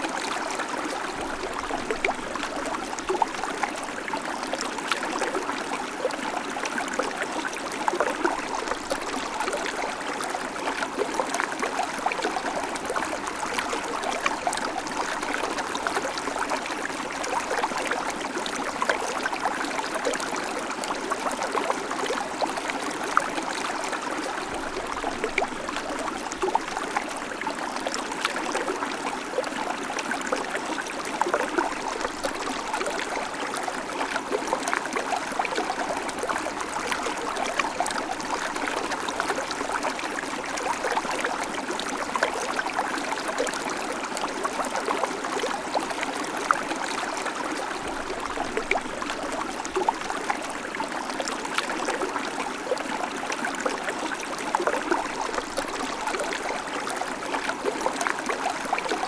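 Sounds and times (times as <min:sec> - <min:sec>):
creek water trickling over stones: 0:00.0 - 0:59.0.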